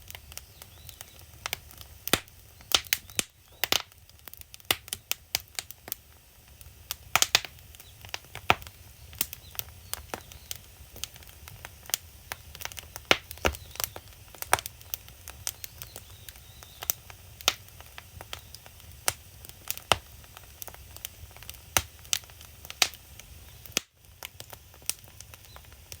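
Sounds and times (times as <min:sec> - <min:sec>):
firewood popping and crackling: 0:00.0 - 0:26.0
low rumble of fire: 0:00.0 - 0:26.0.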